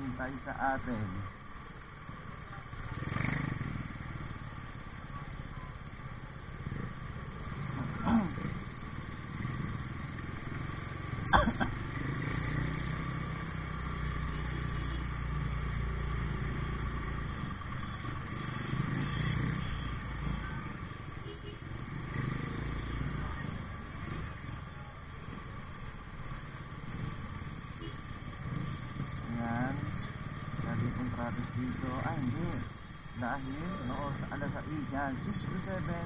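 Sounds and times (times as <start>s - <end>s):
motorcycle engine rumble: 0.0s - 36.0s
road noise: 0.0s - 36.0s.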